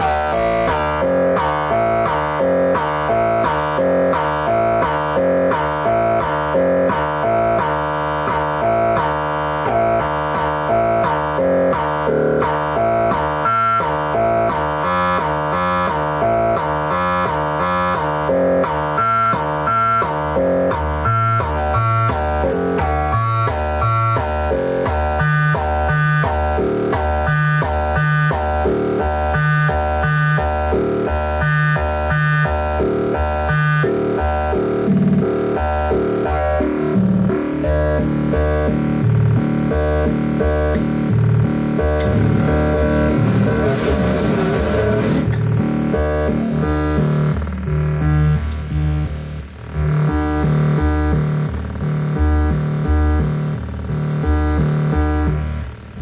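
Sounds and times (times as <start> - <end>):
deep synthesizer bass notes: 0.0 - 56.0
synthesizer arpeggio: 0.0 - 56.0.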